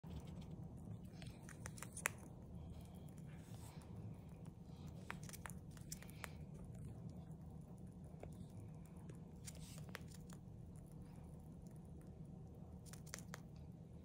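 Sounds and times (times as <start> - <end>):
hamster crunching popcorn: 0.0 - 14.0
low steady hum: 0.0 - 14.0.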